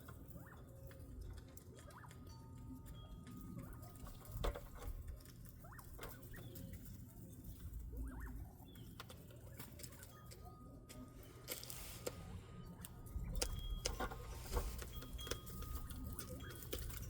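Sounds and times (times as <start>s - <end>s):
pecking and scratching clicks: 0.0s - 17.0s.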